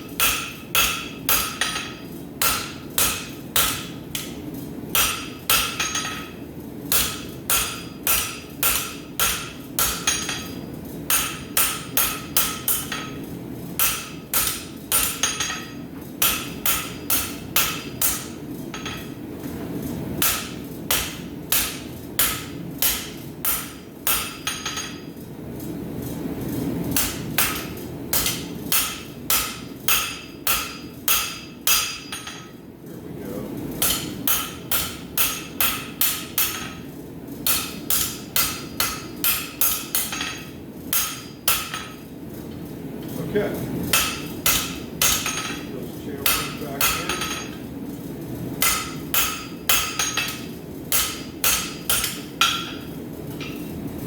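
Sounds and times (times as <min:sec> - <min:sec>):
hammer striking hot steel on anvil: 0:00.0 - 0:19.2, 0:20.2 - 0:25.1, 0:26.9 - 0:32.6, 0:33.8 - 0:42.0, 0:43.9 - 0:47.7, 0:48.6 - 0:53.7.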